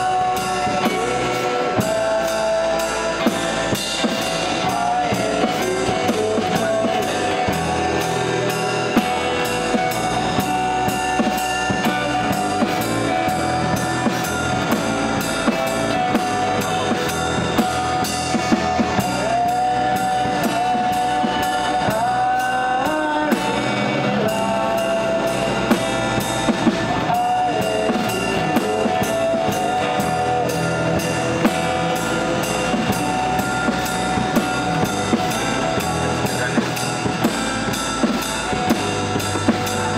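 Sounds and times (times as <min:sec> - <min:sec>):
acoustic guitars: 0:00.0 - 0:39.9
drum kit played with sticks: 0:00.0 - 0:39.9.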